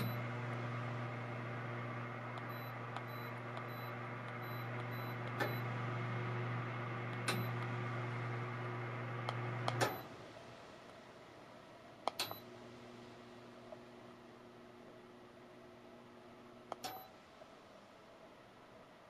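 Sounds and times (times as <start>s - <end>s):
heater fan humming: 0.0s - 19.0s.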